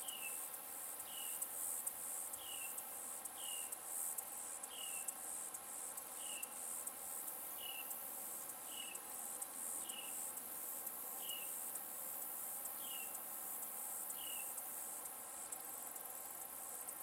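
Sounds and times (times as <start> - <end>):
insects chorus pulsing: 0.0 - 17.0.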